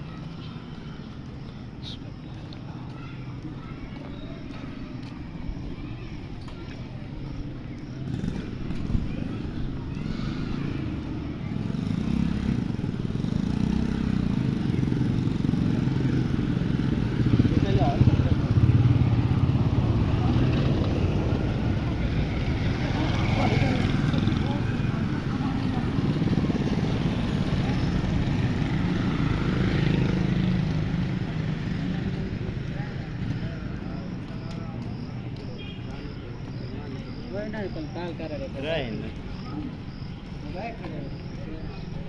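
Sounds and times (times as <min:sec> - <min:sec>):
motorcycle engine running: 0:06.6 - 0:42.0.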